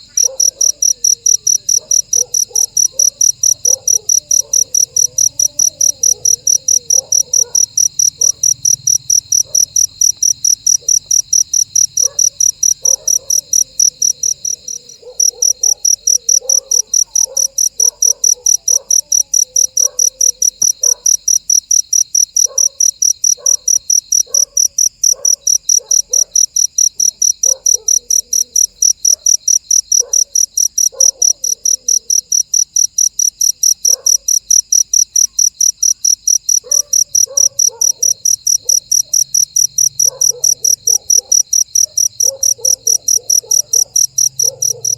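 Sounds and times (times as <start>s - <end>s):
cricket chirping loudly: 0.0s - 44.9s.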